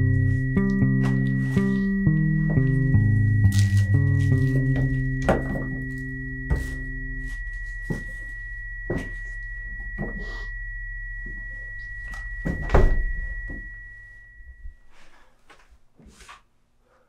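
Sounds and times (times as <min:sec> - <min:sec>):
low drone: 0:00.0 - 0:14.8
high ringing tone: 0:00.0 - 0:15.3.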